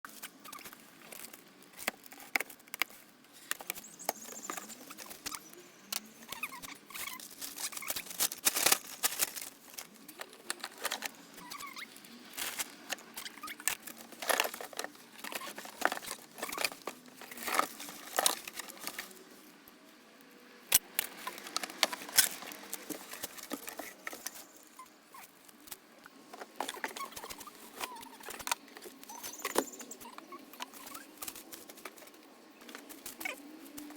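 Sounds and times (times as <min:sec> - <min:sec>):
plastic parts clicking and knocking: 0:00.1 - 0:11.8, 0:12.4 - 0:19.2, 0:20.7 - 0:24.5, 0:25.6 - 0:33.9
packaging rustling: 0:00.1 - 0:19.4, 0:20.8 - 0:25.6, 0:26.2 - 0:33.9.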